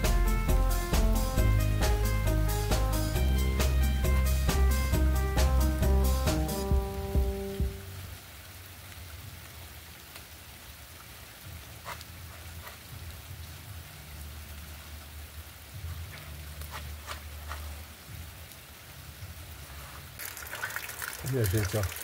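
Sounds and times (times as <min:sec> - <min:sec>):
light rain falling: 0:00.0 - 0:22.0.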